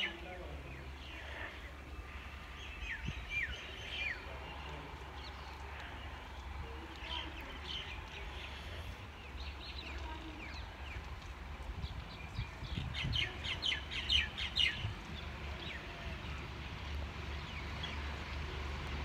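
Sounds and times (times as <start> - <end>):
small birds chirping: 0.0 - 18.7.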